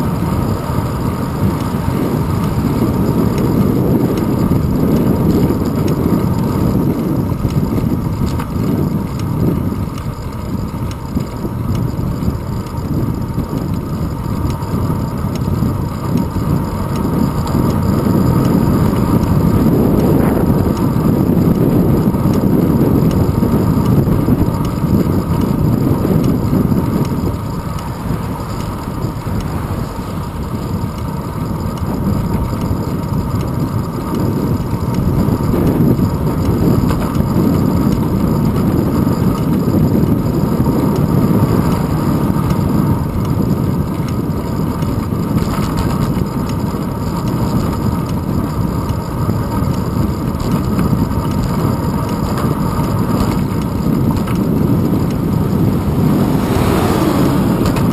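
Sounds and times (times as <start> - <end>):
wind buffeting: 0.0 - 47.4, 48.0 - 57.9
bicycle road noise: 0.0 - 57.9.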